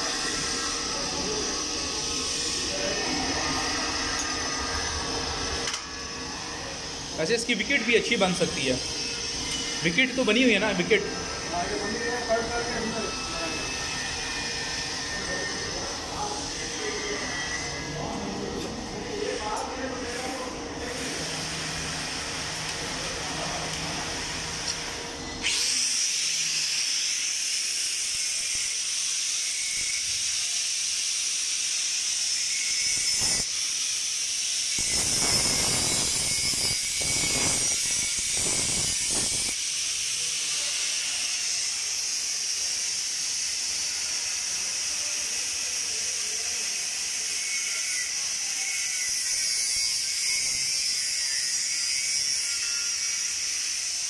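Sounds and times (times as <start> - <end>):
angle grinder cutting metal: 0.0 - 54.0.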